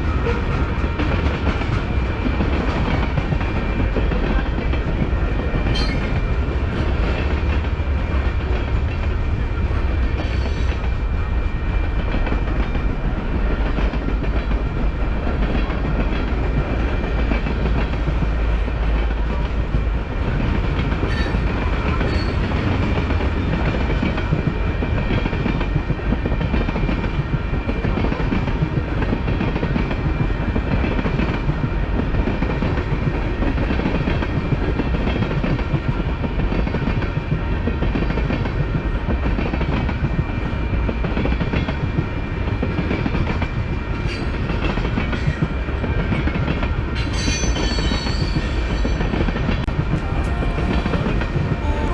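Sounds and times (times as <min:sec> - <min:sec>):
freight train rolling past: 0:00.0 - 0:51.9.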